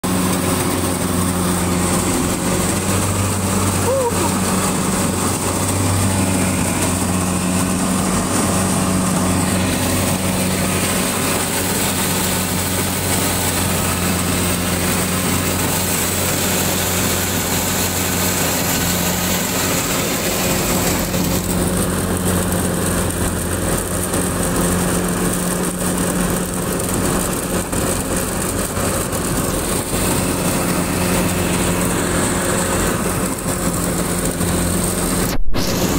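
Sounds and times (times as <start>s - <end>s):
combine harvester running: 0.0s - 35.9s.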